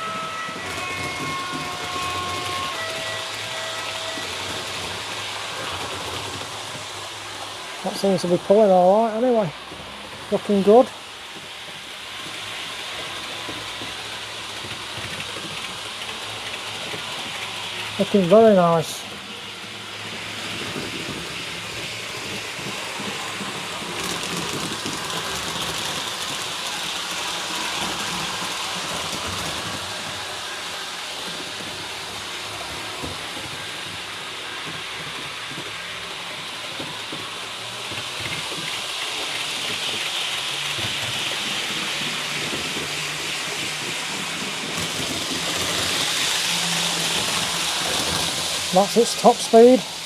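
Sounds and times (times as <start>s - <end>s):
model train rumbling on track: 0.0s - 50.0s.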